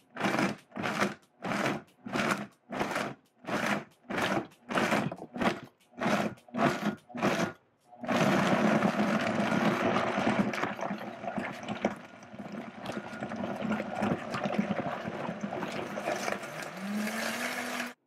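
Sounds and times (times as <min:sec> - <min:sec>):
blender running: 0:00.2 - 0:18.0.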